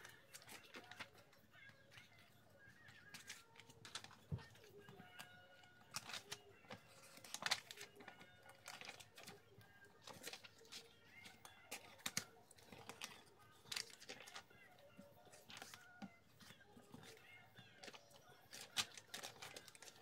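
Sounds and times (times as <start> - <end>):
paper pages rustling: 0.0 - 14.4, 15.0 - 20.0.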